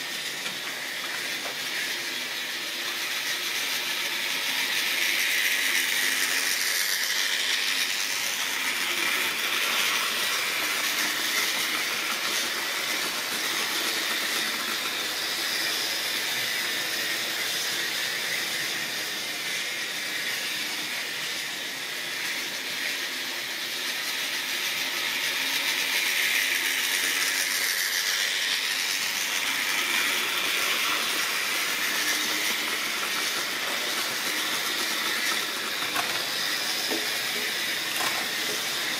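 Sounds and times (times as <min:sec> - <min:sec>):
model train motors whirring: 0:00.0 - 0:38.9.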